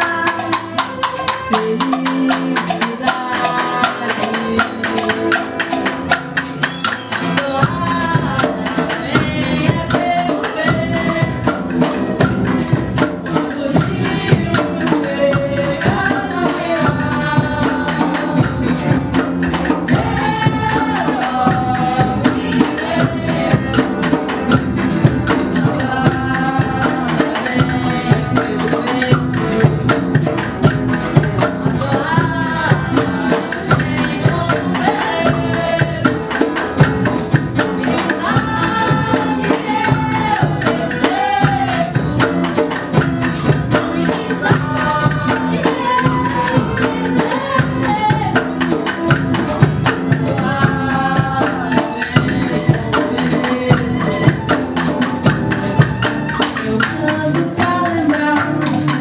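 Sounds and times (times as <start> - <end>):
acoustic guitar: 0.0 - 59.0
hand percussion and tambourine: 0.0 - 59.0
person singing: 0.0 - 59.0.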